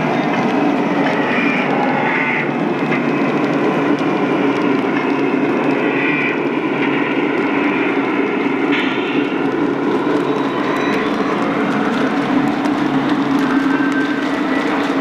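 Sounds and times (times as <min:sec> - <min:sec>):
model train diesel engine drone: 0:00.0 - 0:15.0.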